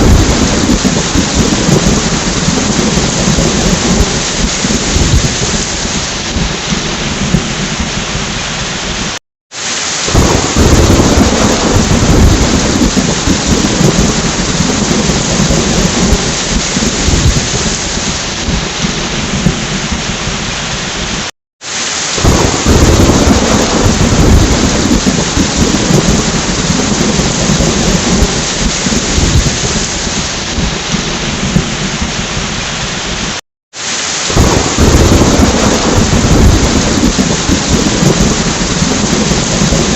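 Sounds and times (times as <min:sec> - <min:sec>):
rolling thunder: 0:00.0 - 0:09.2, 0:10.0 - 0:21.3, 0:22.2 - 0:33.4, 0:34.2 - 0:39.9
heavy rain: 0:00.0 - 0:39.9.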